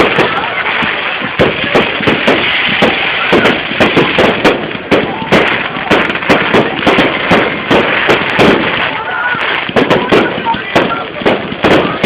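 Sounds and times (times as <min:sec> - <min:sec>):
crackling and hissing: 0:00.0 - 0:12.0
fireworks bangs: 0:00.0 - 0:12.0.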